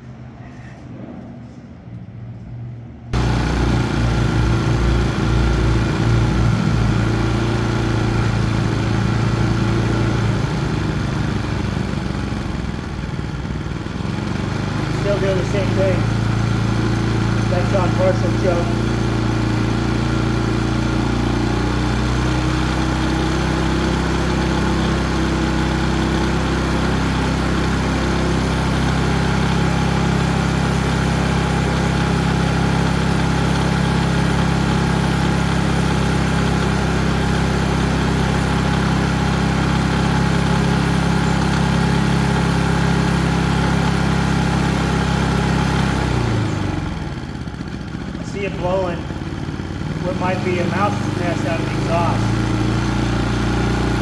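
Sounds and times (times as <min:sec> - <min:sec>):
generator engine running: 0:00.0 - 0:54.0.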